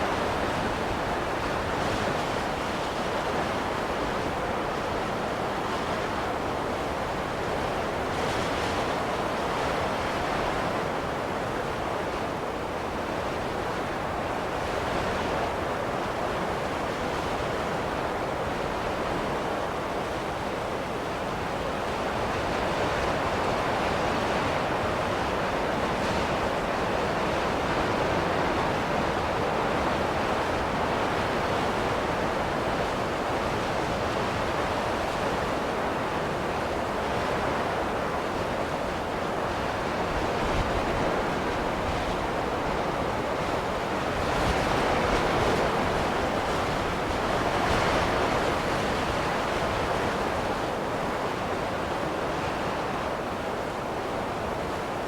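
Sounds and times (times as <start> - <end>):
rushing wind of snowstorm: 0.0 - 55.0.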